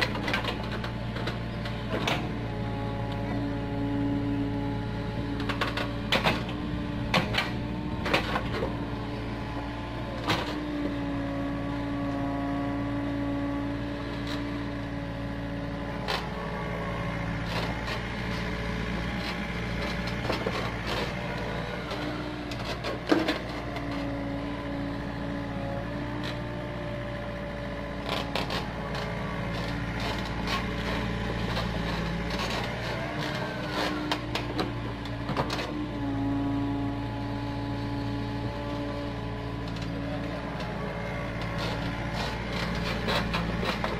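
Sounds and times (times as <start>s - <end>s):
excavator engine and hydraulics: 0.0s - 43.9s.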